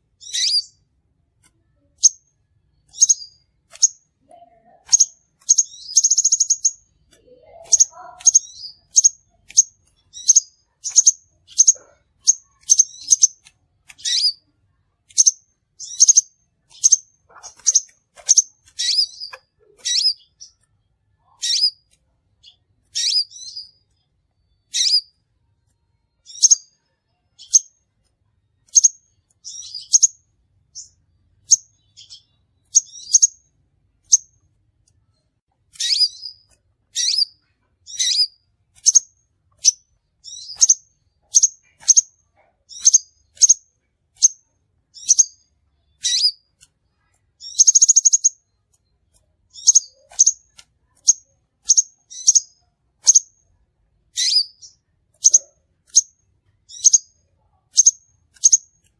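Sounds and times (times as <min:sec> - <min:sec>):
bird chirping: 0:00.0 - 0:58.9
buzzy bird trill: 0:00.1 - 0:00.8, 0:01.8 - 0:14.5, 0:15.1 - 0:25.2, 0:26.2 - 0:27.8, 0:28.6 - 0:33.4, 0:35.7 - 0:46.5, 0:47.1 - 0:53.4, 0:54.1 - 0:58.9.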